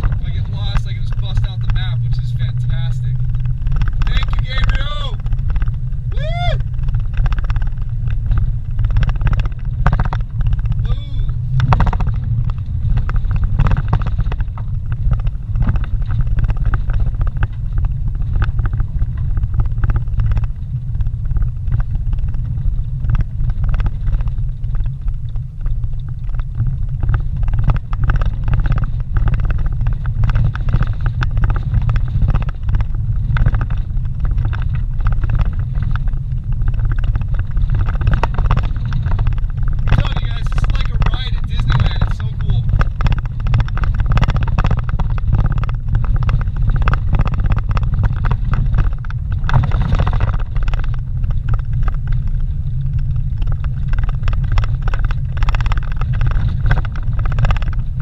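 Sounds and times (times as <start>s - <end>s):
engine and tyres rumbling: 0.0s - 58.0s
knocks and rattles over bumps: 0.0s - 58.0s.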